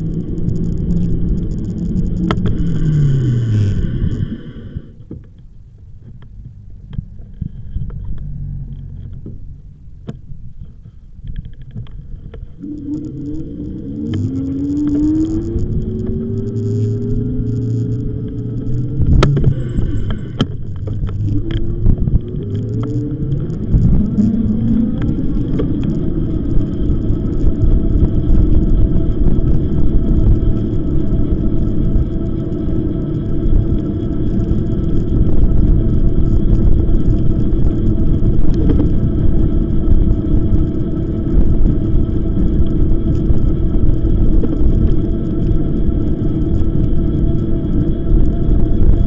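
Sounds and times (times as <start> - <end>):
electric motor whine: 0.0 - 5.1, 11.8 - 49.0
wind buffeting microphone: 5.9 - 49.0.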